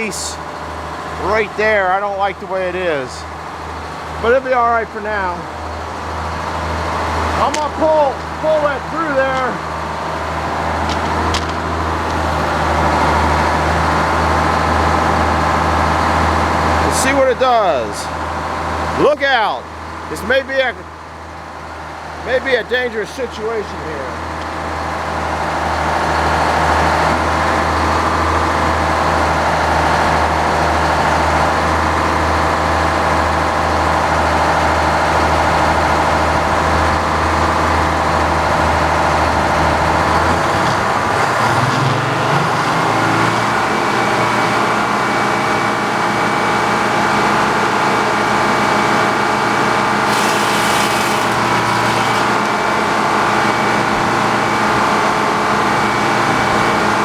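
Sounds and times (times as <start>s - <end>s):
sawmill drone: 0.0s - 57.0s.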